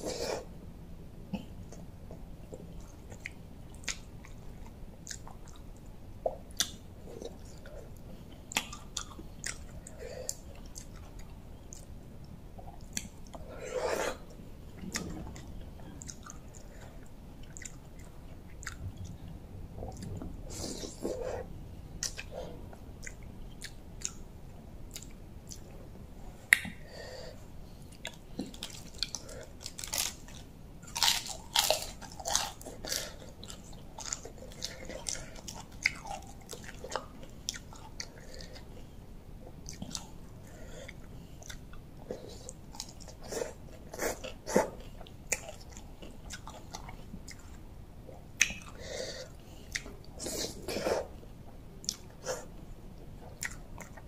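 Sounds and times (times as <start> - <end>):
person chewing food: 1.3 - 24.2, 24.9 - 25.7, 27.8 - 52.6, 53.2 - 54.0.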